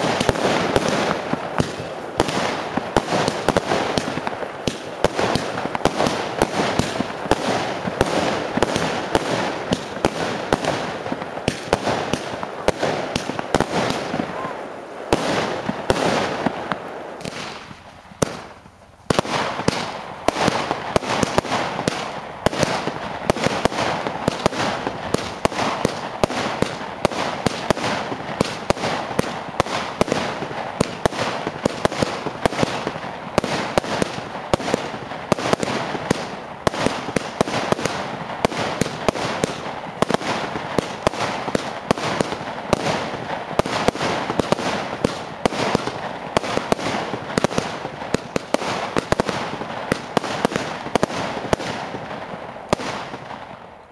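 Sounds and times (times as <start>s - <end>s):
fireworks bursting with sharp bangs: 0.0s - 53.9s.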